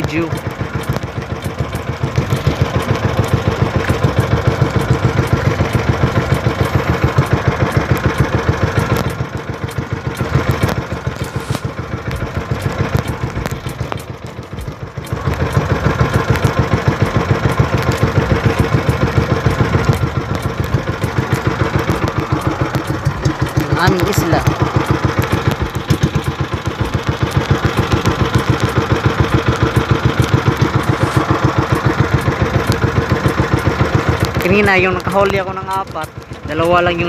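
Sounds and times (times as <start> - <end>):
boat engine chugging: 0.0 - 37.0.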